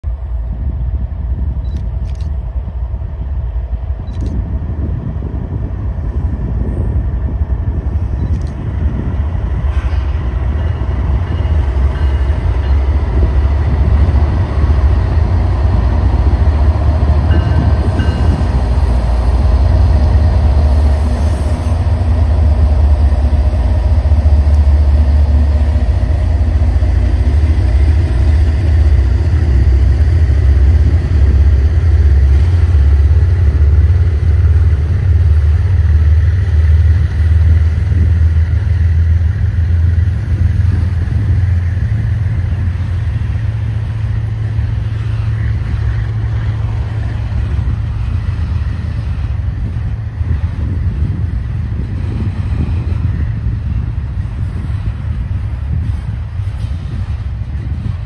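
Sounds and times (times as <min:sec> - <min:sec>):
diesel locomotives rumbling: 0:00.0 - 0:58.0.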